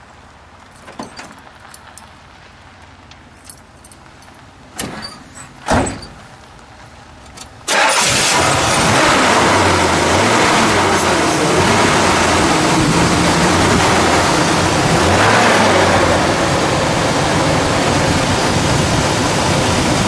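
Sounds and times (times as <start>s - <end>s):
car engine starting and running: 0.0s - 20.0s.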